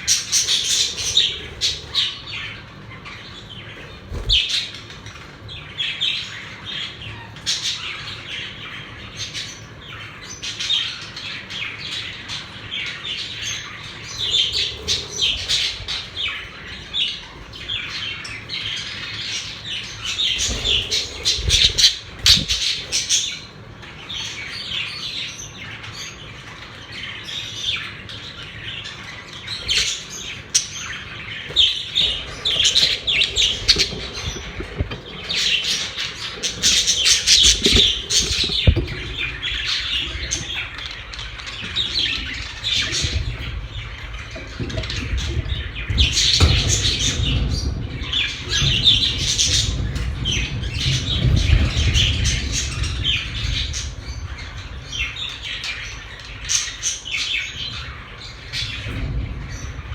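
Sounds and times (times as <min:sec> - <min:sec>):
budgerigars chattering: 0:00.0 - 0:58.0.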